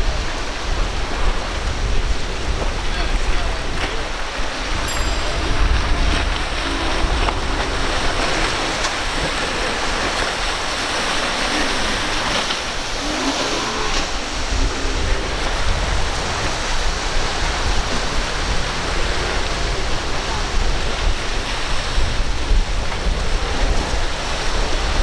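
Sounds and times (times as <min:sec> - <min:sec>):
waves breaking: 0:00.0 - 0:25.0
wind rumbling on microphone: 0:00.0 - 0:25.0.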